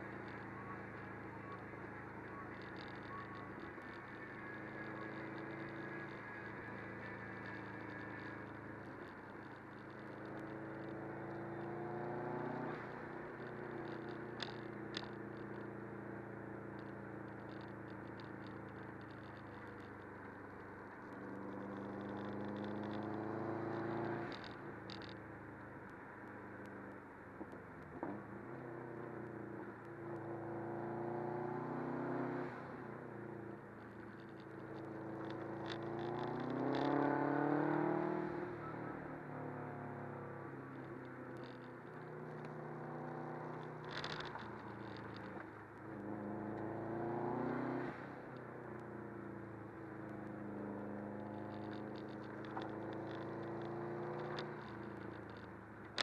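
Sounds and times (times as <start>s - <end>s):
car engine accelerating: 0.0s - 25.2s, 27.9s - 56.0s
road noise: 0.0s - 56.0s.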